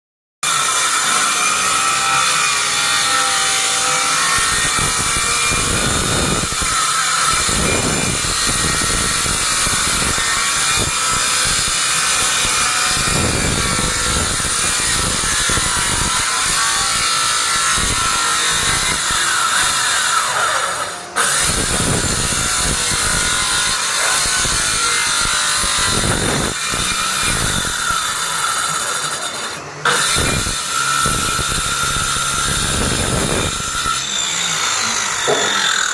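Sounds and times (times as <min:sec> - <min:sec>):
circular saw cutting wood: 0:00.4 - 0:35.9.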